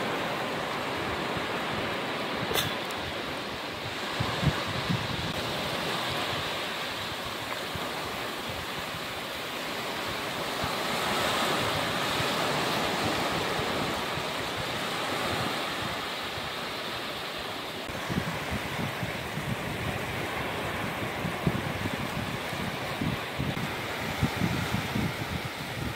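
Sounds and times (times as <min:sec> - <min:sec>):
surf washing over sand: 0:00.0 - 0:25.9.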